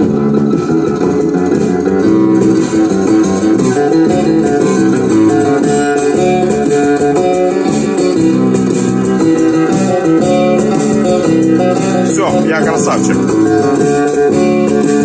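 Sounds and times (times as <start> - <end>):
guitar music from cassette: 0.0 - 15.0.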